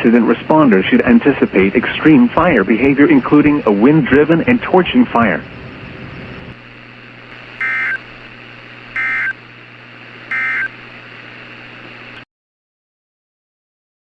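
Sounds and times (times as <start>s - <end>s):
background hiss and hum: 0.0s - 12.2s.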